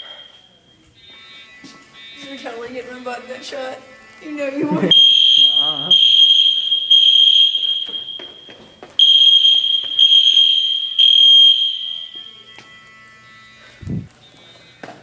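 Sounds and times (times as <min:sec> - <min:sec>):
fire alarm beeping: 0:00.0 - 0:04.1, 0:04.8 - 0:15.0.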